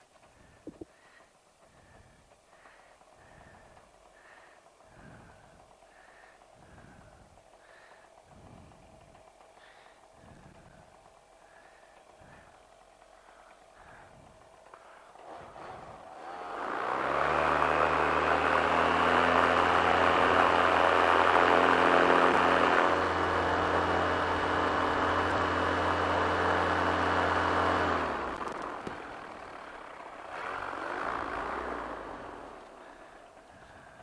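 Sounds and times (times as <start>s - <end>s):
paramotor engine running: 0.0s - 34.0s.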